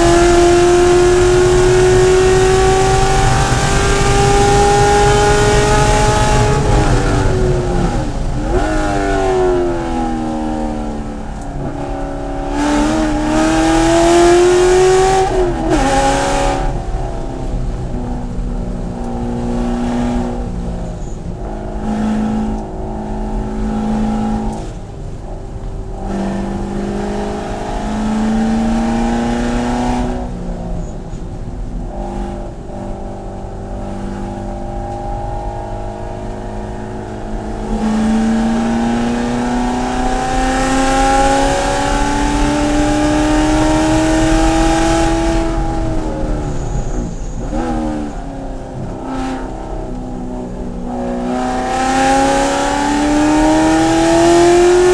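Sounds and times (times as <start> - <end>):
car engine accelerating hard: 0.0 - 54.9
rushing wind noise: 0.0 - 54.9.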